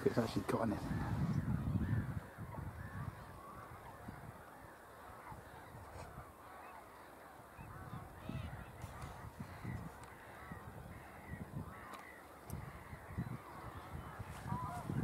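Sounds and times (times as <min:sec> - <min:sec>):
flock of wetland birds calling: 0:00.0 - 0:15.0.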